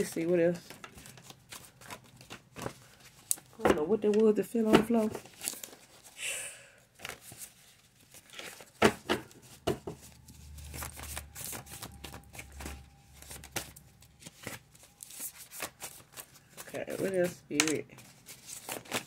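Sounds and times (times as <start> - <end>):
cards rustling and flicking: 0.0 - 6.2, 7.0 - 19.0.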